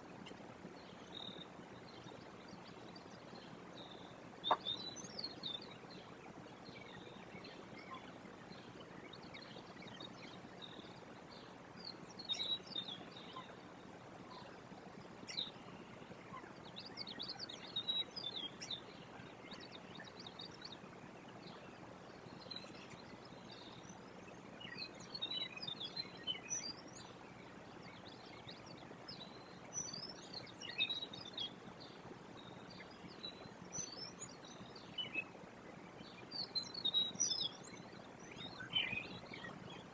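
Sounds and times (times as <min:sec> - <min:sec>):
outdoor background hiss: 0:00.0 - 0:39.9
small birds chirping: 0:00.0 - 0:39.9.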